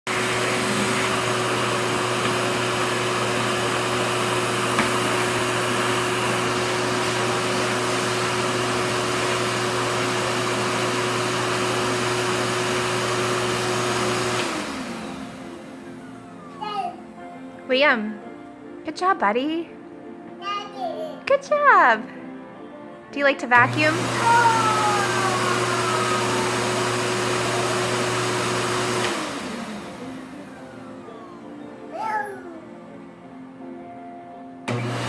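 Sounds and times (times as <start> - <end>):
vacuum cleaner running: 0.0 - 17.6, 23.5 - 33.8, 34.4 - 35.0.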